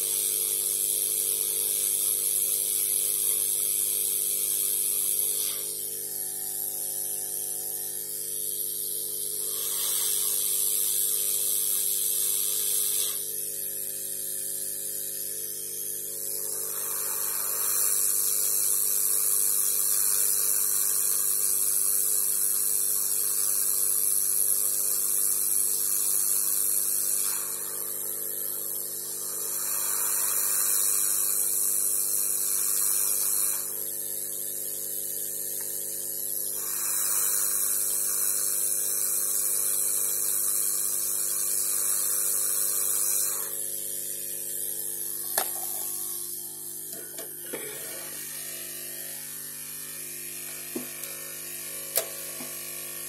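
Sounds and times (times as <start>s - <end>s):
hot-air gun hissing: 0.0s - 53.0s.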